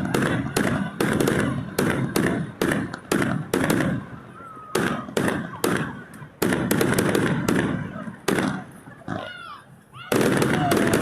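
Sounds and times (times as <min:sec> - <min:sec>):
fireworks bangs: 0:00.0 - 0:09.4, 0:10.0 - 0:11.0.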